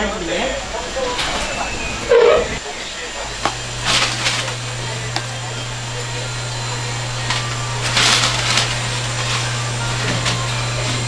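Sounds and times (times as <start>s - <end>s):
kitchen background noise: 0.0s - 11.0s
low machine hum: 0.0s - 11.0s.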